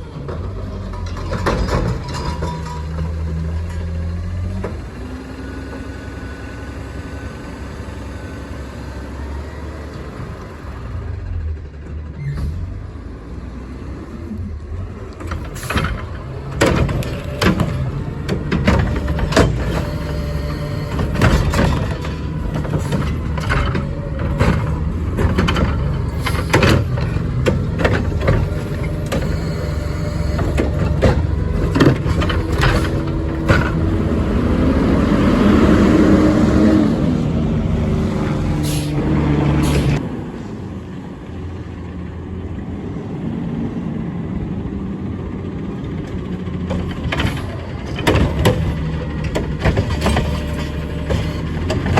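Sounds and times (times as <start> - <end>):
garbage truck engine running: 0.0 - 51.9.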